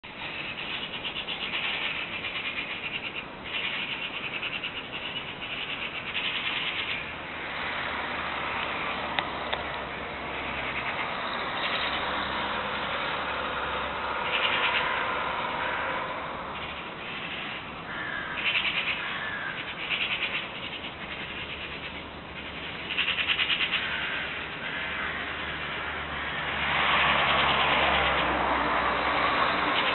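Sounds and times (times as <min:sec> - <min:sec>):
small birds chirping in trills: 0:00.0 - 0:29.9.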